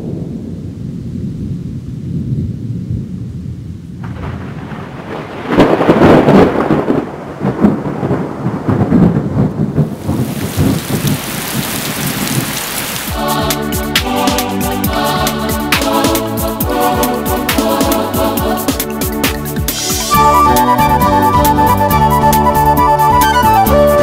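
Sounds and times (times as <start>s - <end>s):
loud thunderclap: 0.0s - 21.2s
rain: 0.0s - 24.0s
thunder rumbling: 0.0s - 24.0s.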